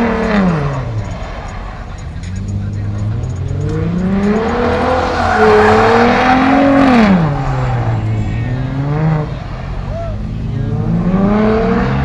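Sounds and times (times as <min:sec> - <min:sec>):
car engine revving: 0:00.0 - 0:12.0
tyres screeching: 0:00.2 - 0:10.4.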